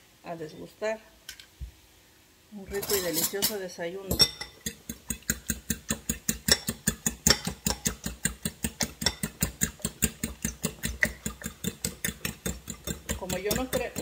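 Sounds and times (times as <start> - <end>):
utensil beating eggs in bowl: 2.7 - 14.0.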